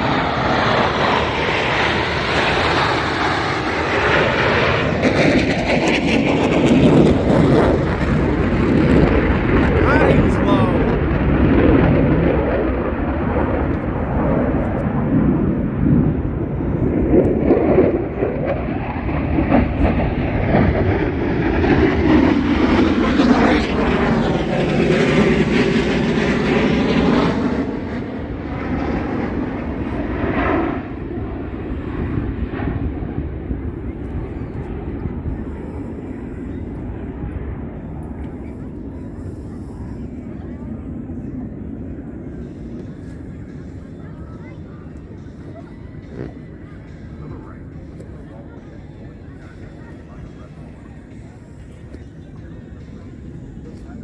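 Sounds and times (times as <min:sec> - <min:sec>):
jet flying past: 0:00.0 - 0:54.0.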